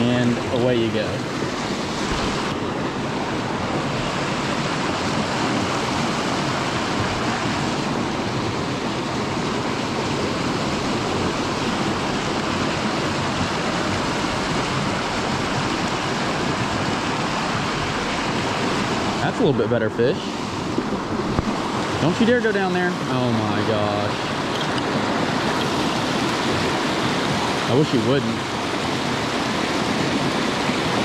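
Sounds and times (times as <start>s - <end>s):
creek water rushing over rocks: 0.0s - 31.0s.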